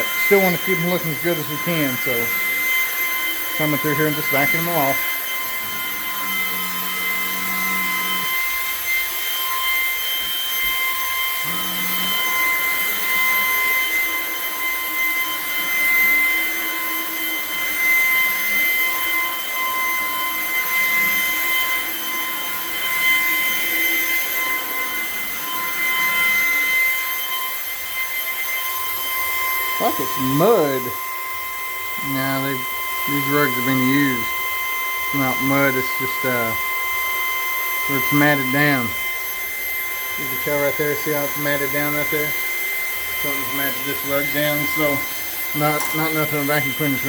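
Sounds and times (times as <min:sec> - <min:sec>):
vacuum cleaner motor whine: 0:00.0 - 0:47.0.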